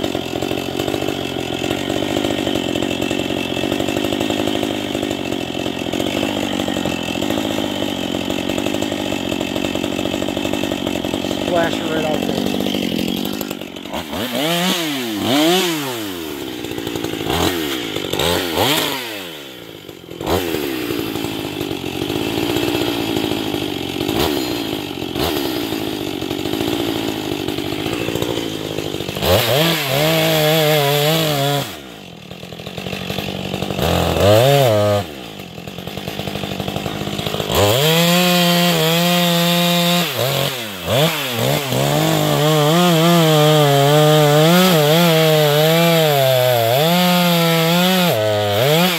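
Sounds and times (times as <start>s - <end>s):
chainsaw revving and cutting: 0.0s - 48.9s.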